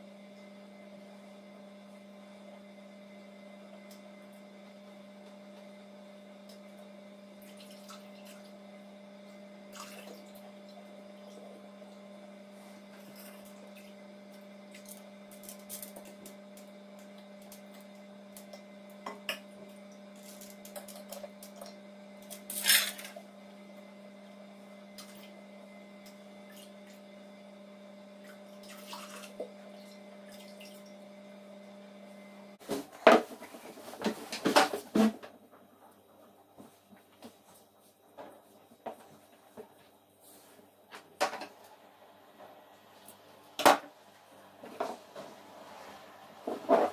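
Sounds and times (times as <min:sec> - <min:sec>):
steady electric hum: 0:00.0 - 0:46.9.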